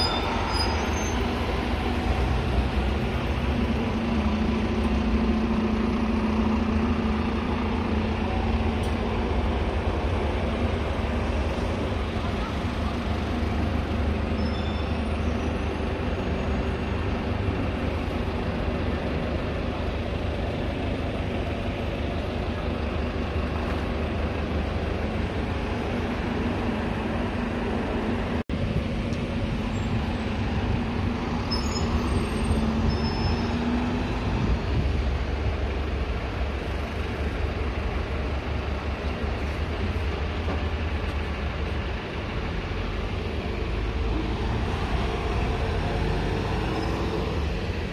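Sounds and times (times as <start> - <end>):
bus engines rumbling: 0.0 - 47.9.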